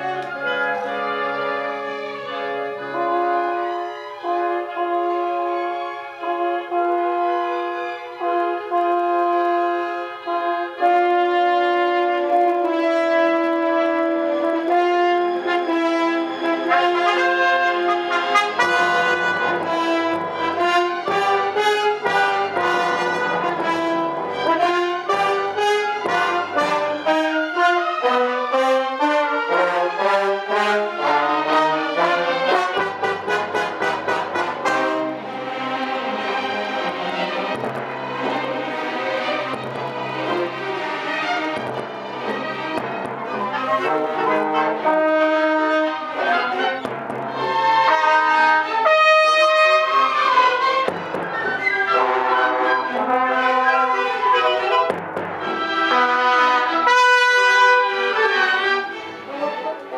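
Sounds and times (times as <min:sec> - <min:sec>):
brass section chords: 0:00.0 - 0:59.9
orchestra playing: 0:00.0 - 0:59.9.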